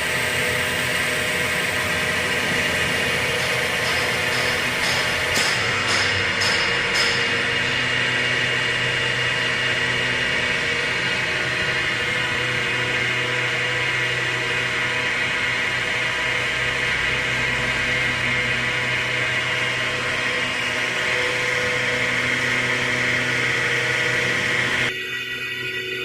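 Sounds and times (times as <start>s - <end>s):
low hum: 0.0s - 26.0s
wood lathe whirring: 0.0s - 26.0s.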